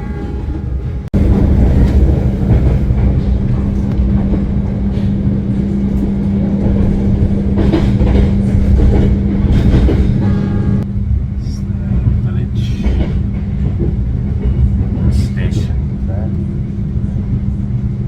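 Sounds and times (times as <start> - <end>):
train carriage rattling: 0.0 - 18.0
train rumbling: 0.0 - 18.0.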